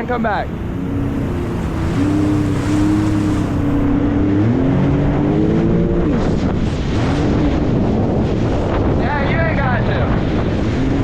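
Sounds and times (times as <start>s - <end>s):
jet ski engine running: 0.0s - 9.0s
wind noise on microphone: 0.0s - 11.0s.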